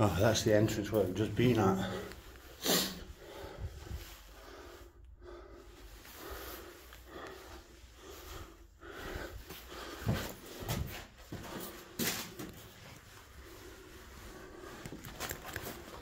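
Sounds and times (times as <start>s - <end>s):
faint breathing: 1.6s - 11.8s, 13.0s - 16.0s.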